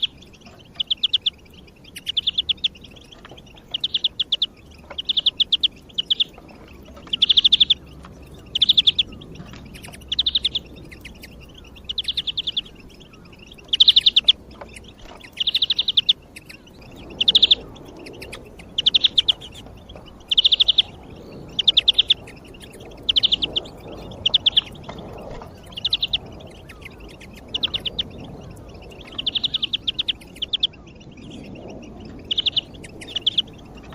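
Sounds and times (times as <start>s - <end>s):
greenfinch trilling: 0.0s - 33.9s.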